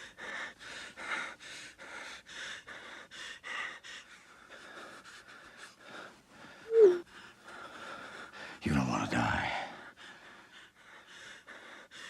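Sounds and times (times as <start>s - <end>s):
person panting: 0.0s - 8.6s, 9.7s - 12.0s.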